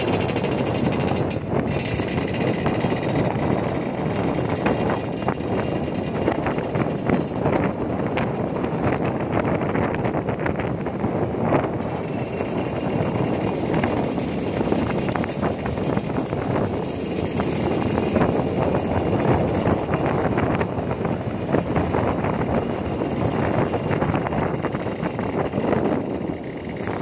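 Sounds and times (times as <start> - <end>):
motorcycle engine running: 0.0 - 27.0
wind on microphone: 0.0 - 27.0.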